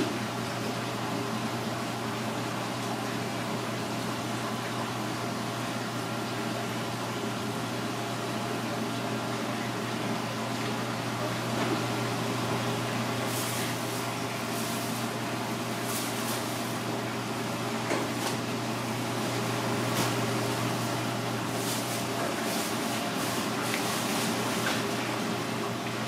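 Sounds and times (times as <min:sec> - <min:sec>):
low machine hum with hiss: 0:00.0 - 0:26.0.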